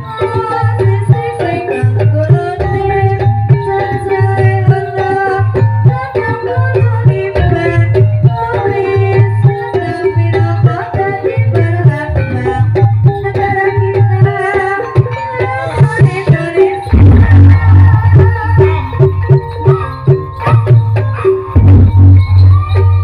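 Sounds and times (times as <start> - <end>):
drum strokes: 0.0 - 23.0
gamelan music: 0.0 - 23.0
pitched metal percussion notes: 0.0 - 23.0.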